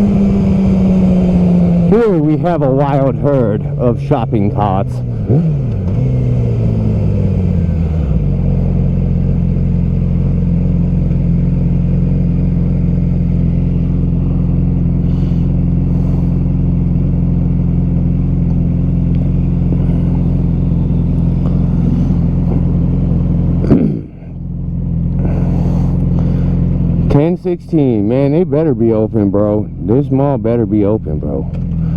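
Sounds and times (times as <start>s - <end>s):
motorcycle engine idling and revving: 0.0s - 31.9s.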